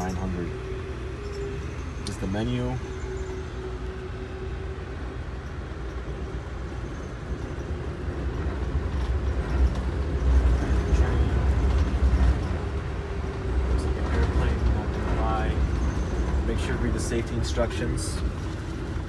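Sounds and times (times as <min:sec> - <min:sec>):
train rumbling from inside: 0:00.0 - 0:19.0.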